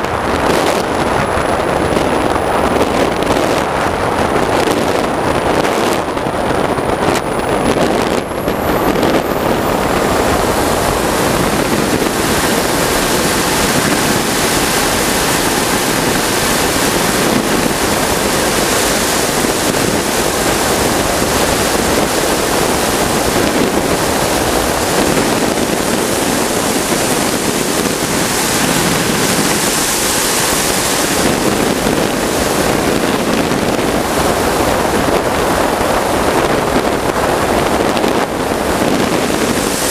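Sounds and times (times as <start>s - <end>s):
high whine: 0.0s - 39.9s
jet turbine roaring: 0.0s - 39.9s
rushing air noise: 0.0s - 39.9s.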